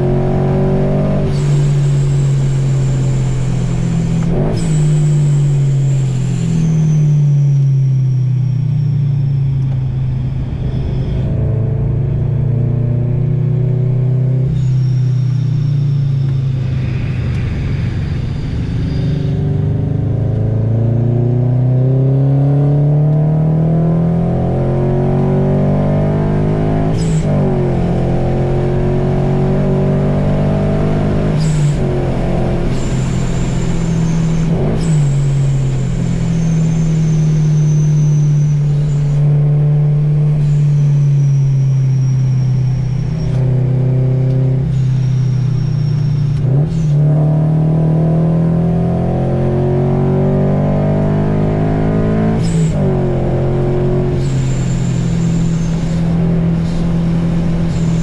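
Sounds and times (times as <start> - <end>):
car engine revving in cabin: 0.0 - 58.0.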